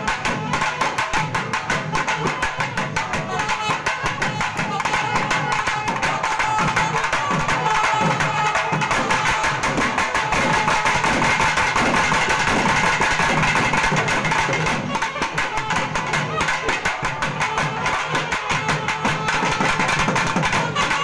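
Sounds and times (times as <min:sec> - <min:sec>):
barrel drums fast rhythm: 0:00.0 - 0:21.0.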